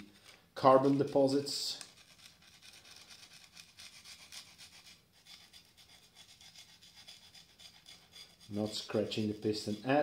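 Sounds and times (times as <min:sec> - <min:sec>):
metal scraper scraping piston: 0:01.8 - 0:10.0.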